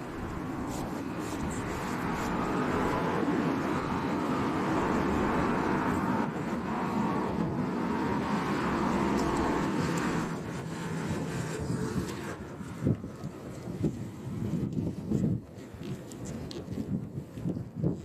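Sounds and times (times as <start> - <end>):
vehicle rushing noise: 0.0 - 14.6.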